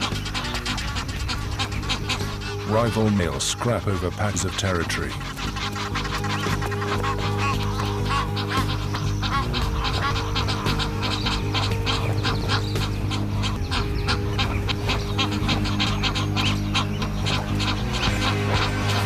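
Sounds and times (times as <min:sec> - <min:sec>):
geese honking: 0:00.0 - 0:19.0
low sustained music chords: 0:00.0 - 0:19.0.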